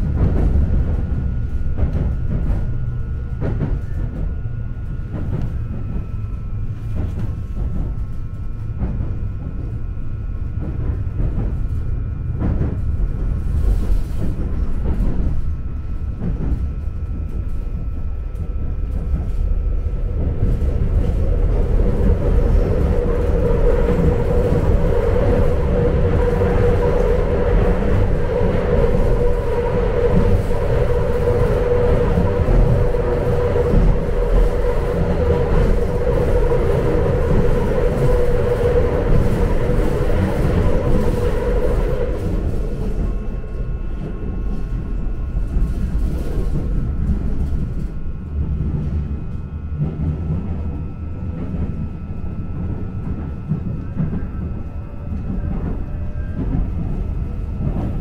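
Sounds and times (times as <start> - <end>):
faint steady whine: 0.0 - 58.0
mid-pitched drone: 0.0 - 58.0
train rumble: 0.0 - 58.0.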